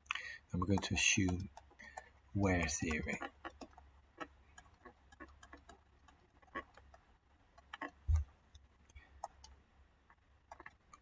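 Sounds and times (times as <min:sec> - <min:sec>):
stylus tapping on pen tablet: 0:00.6 - 0:11.0.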